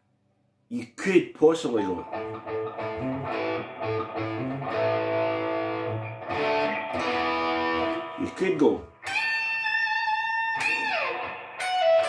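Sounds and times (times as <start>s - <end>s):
electric guitar lead lick: 1.9s - 12.0s.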